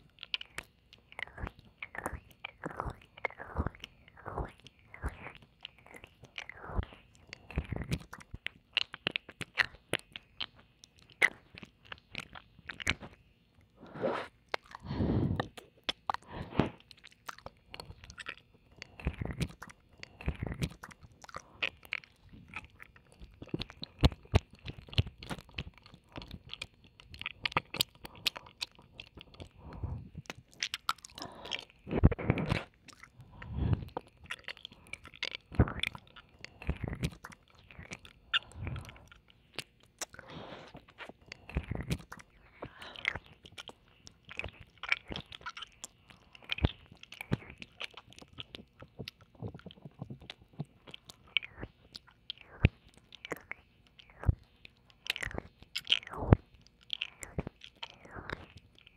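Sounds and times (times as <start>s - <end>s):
tongue clicks: 0.0s - 13.2s, 14.3s - 58.9s
ear licking: 0.0s - 58.9s.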